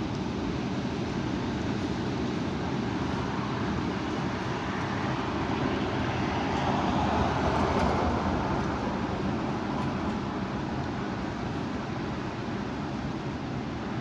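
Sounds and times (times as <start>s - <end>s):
high wind blowing: 0.0s - 14.0s.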